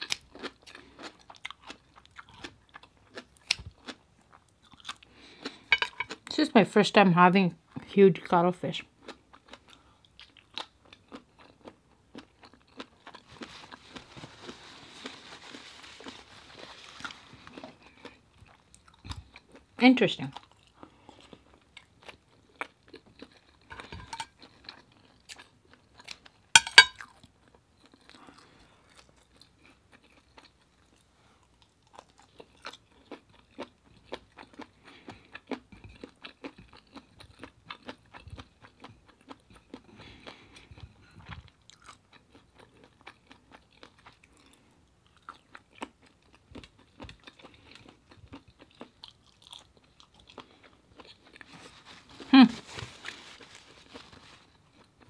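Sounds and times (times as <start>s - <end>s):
wet chewing: 0.0s - 6.4s, 9.0s - 19.7s, 20.3s - 55.0s.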